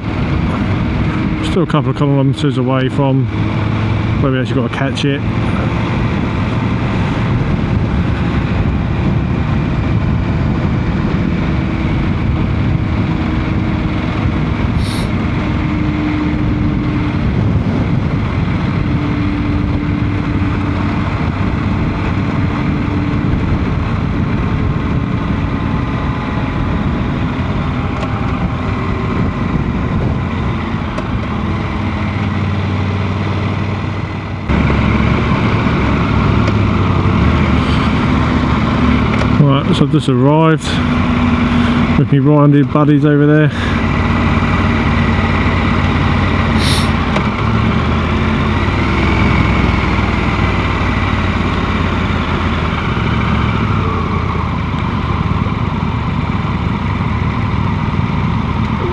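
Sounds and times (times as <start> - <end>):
motorcycle engine drone: 0.0 - 58.9
wind and road noise: 0.0 - 58.9.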